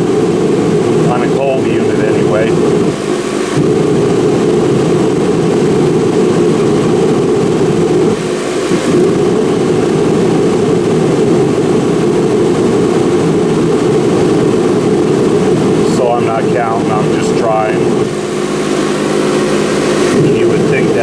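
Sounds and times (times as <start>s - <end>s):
propane heater fan and burner: 0.0s - 21.0s.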